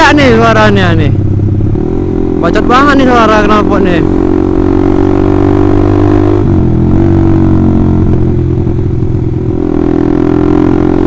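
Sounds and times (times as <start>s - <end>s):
motorcycle engine with loud exhaust: 0.0s - 11.0s.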